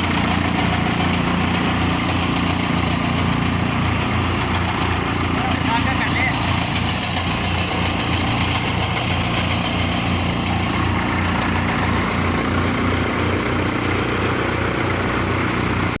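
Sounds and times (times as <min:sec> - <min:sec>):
chaff cutter machine running: 0:00.0 - 0:16.0.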